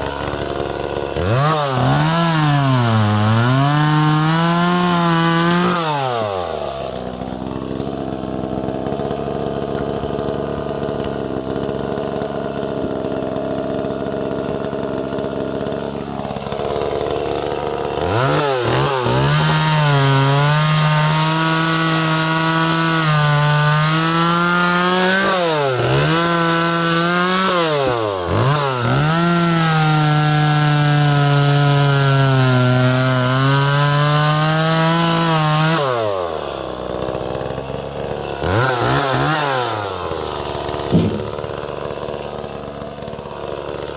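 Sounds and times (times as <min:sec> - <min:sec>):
chainsaw cutting wood: 0:00.0 - 0:43.9
chainsaw idling and revving: 0:00.0 - 0:43.9.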